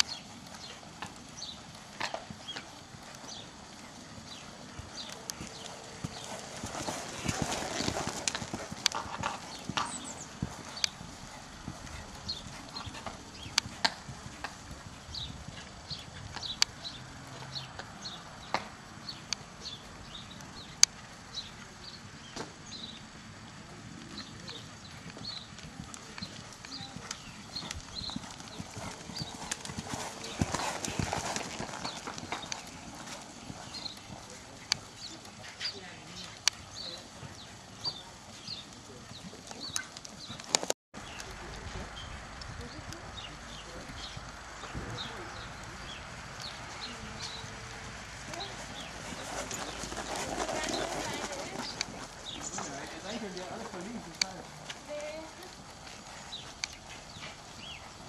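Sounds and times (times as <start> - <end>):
horse hoofbeats on sand: 0.0 - 20.8, 23.9 - 58.0.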